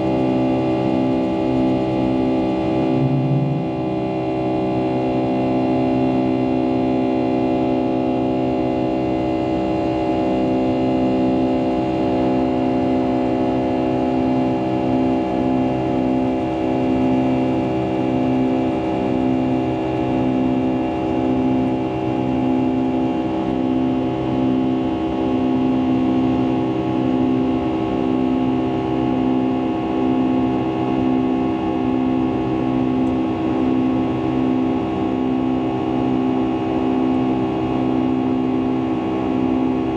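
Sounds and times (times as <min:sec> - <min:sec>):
jet engines droning in cabin: 0:00.0 - 0:39.9.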